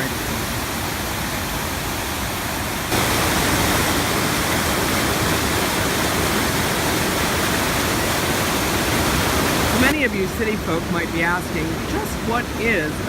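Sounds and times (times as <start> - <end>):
water rushing over a dam: 0.0 - 13.0.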